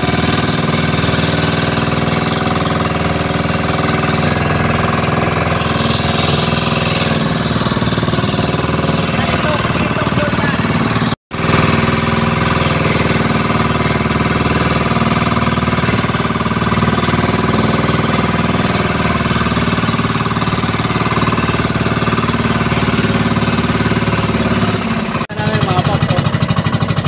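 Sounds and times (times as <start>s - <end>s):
boat engine chugging: 0.0s - 27.0s.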